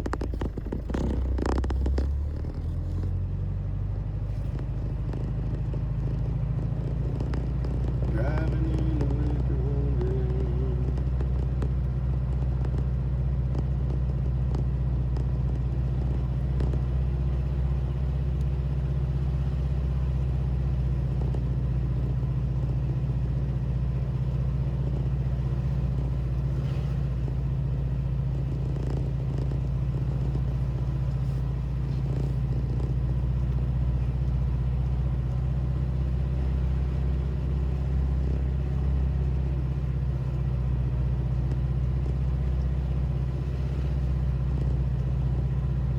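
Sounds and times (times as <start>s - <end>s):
vehicle engine and road noise: 0.0s - 45.9s.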